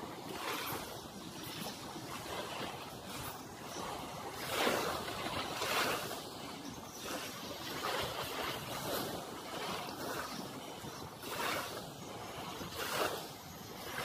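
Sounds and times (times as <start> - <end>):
small waves breaking on sand: 0.0 - 14.0.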